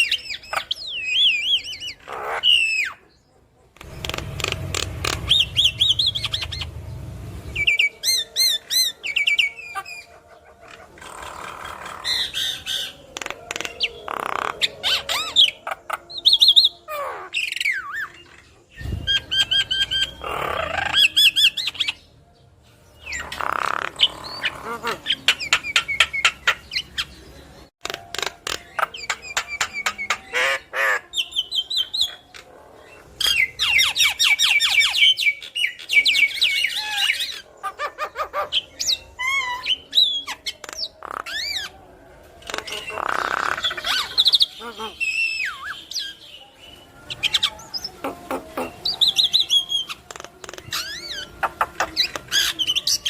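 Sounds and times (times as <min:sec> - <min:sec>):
bird chattering song: 0:00.0 - 0:22.2, 0:23.0 - 0:41.8, 0:42.4 - 0:53.0.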